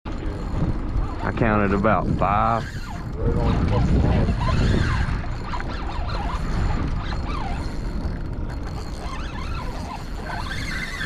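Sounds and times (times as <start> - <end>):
fishing reel whirring: 0.2 - 11.0.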